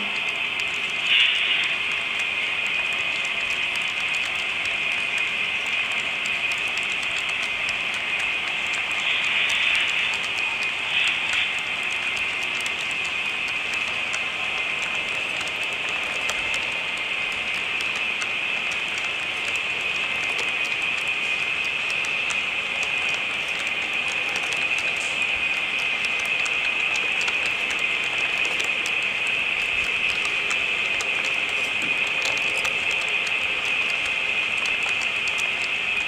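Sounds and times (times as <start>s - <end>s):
model train wheels whirring: 0.0s - 36.0s.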